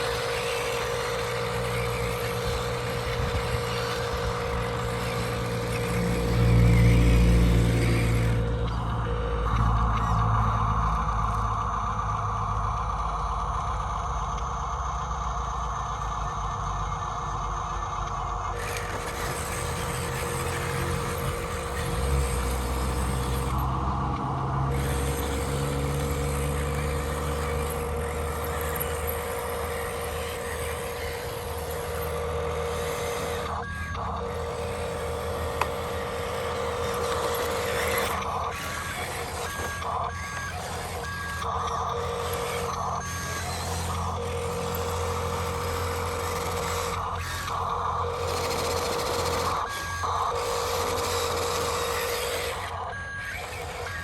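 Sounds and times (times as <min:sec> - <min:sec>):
electric motors and gearboxes whining: 0:00.0 - 0:54.0.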